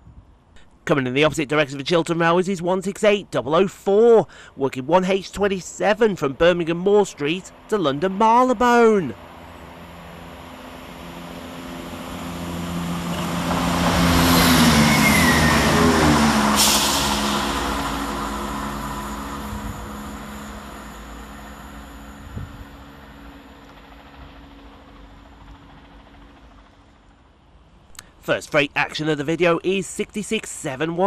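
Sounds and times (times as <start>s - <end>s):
diesel train passing: 1.6s - 31.0s.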